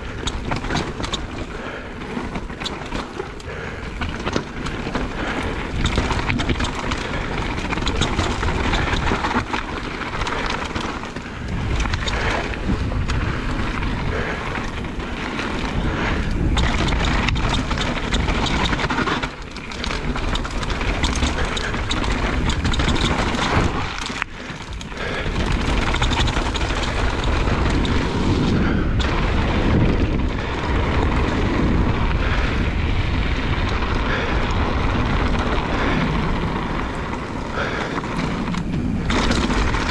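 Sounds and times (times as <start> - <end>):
bike rattling and knocking: 0.0 - 39.9
bike tyres rumbling: 0.0 - 39.9
wind buffeting microphone: 0.0 - 39.9.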